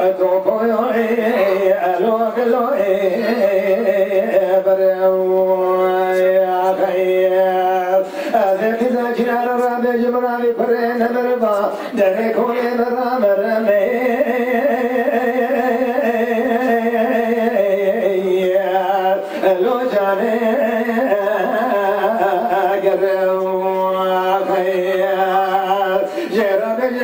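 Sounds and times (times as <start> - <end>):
man singing into a microphone: 0.0 - 27.0.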